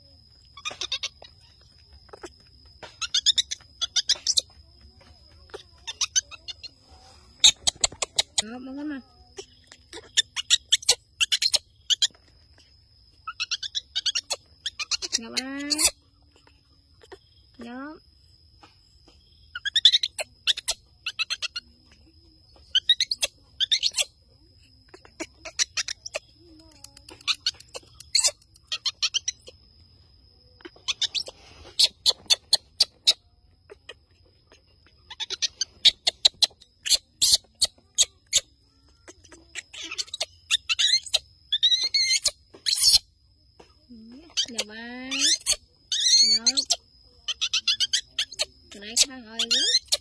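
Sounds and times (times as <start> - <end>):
baby monkey chirping and squeaking: 0.4 - 17.8, 18.6 - 50.0.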